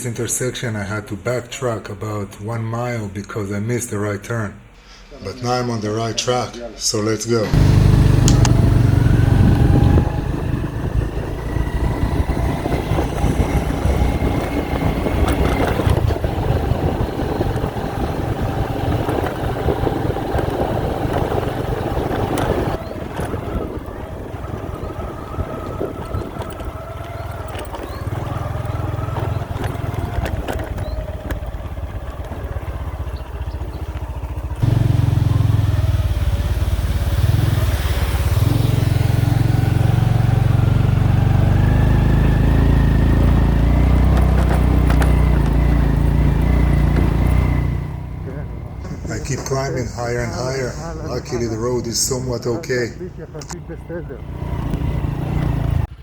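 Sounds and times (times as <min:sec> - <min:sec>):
vehicle engine running: 0:07.5 - 0:56.0
wind rumble on microphone: 0:07.6 - 0:52.4.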